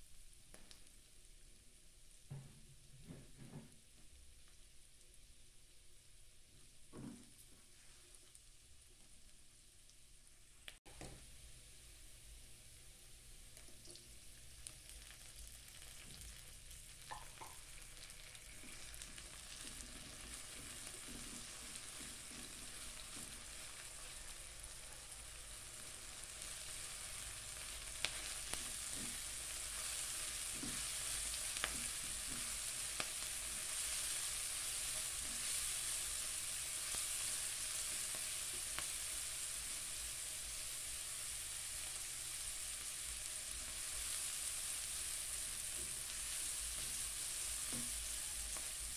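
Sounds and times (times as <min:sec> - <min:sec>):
onion sizzling in oil: 0:04.3 - 0:48.9.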